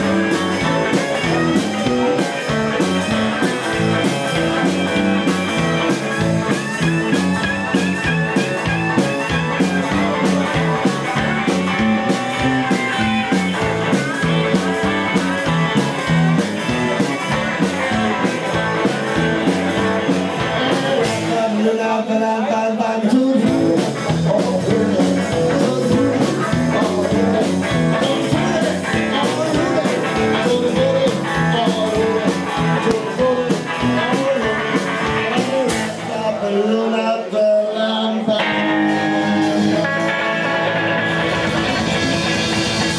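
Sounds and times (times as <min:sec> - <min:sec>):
blues-rock band playing: 0:00.0 - 0:42.9.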